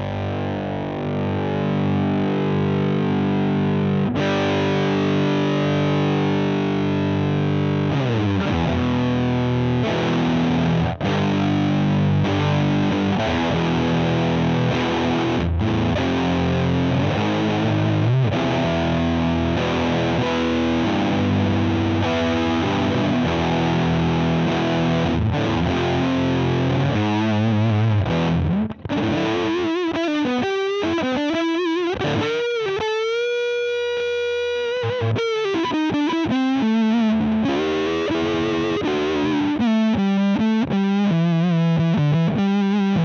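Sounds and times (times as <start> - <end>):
distorted fuzz electric guitar: 0.0 - 43.0.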